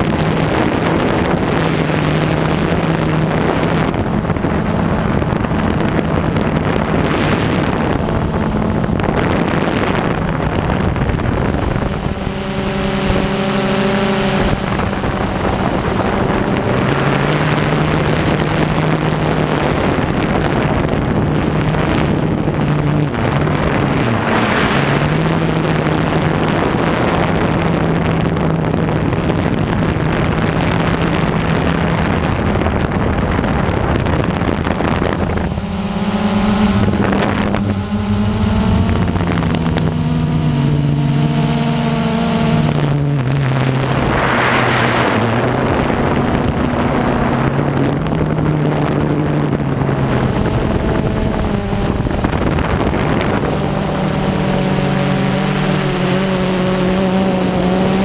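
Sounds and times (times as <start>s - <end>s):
drone propellers humming: 0.0s - 58.0s
wind on microphone: 0.0s - 58.0s.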